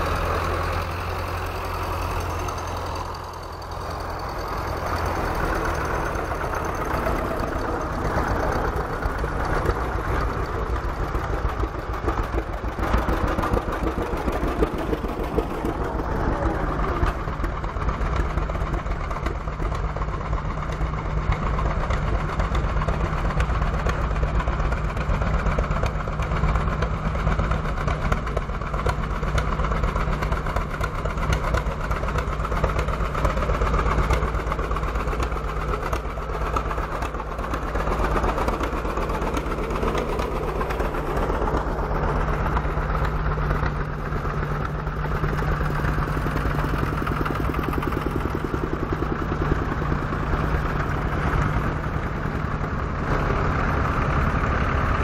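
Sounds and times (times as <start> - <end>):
tractor engines running: 0.0 - 55.0.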